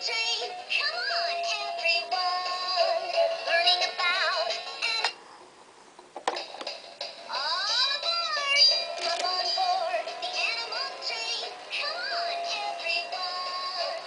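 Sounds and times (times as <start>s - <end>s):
toy train electronic children's song: 0.0s - 5.2s, 6.6s - 14.0s.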